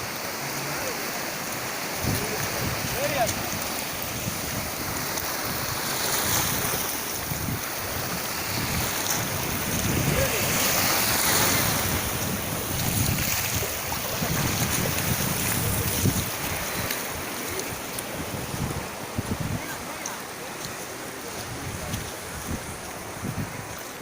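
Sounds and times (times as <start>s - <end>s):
sea surf washing onto beach: 0.0s - 24.0s
wind on microphone: 1.9s - 24.0s.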